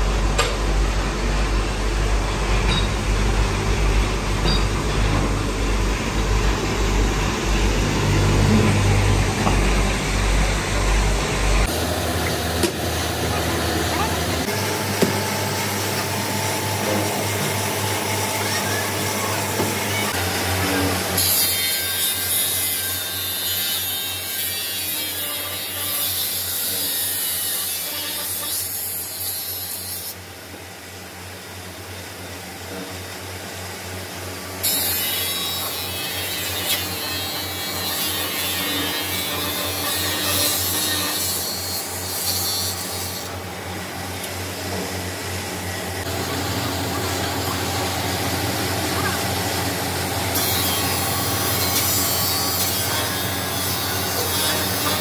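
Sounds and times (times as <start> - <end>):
abrasive wheel grinding metal: 2.3 - 28.4, 34.7 - 45.0, 45.6 - 55.0.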